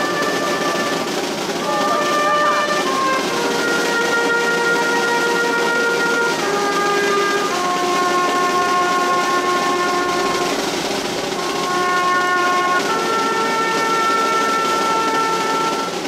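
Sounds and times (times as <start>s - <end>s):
brass band playing a slow march: 0.0s - 16.0s
street crowd noise: 0.0s - 16.0s.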